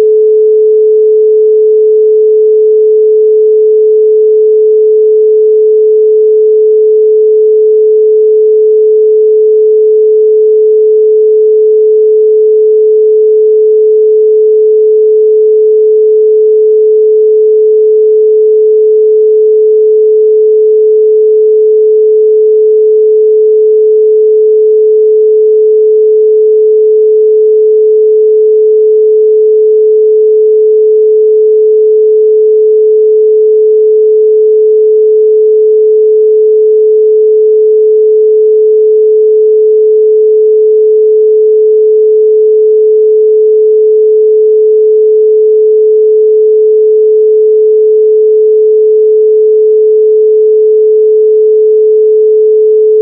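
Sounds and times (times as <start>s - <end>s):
pure sine tone: 0.0s - 53.0s.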